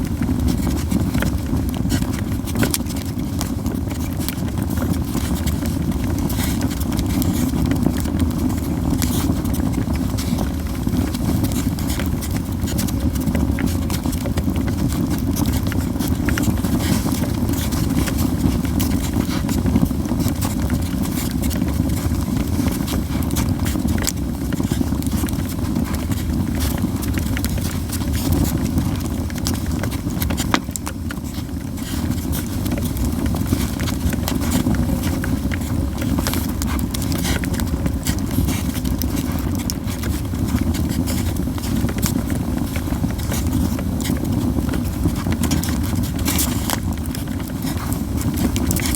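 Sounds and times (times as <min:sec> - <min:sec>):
campfire flames rushing: 0:00.0 - 0:48.9
fire crackles and pops: 0:00.0 - 0:48.9.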